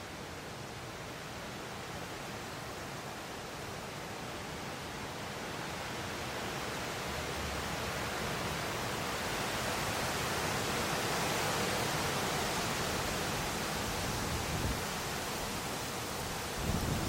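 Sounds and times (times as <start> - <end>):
wind rustling leaves: 0.0 - 17.0.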